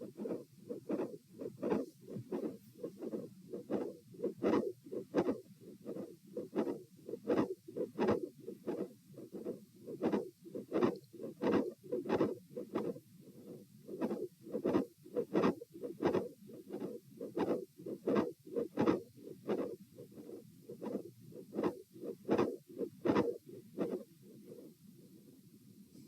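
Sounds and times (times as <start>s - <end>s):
heartbeat through a stethoscope: 0.0s - 24.7s.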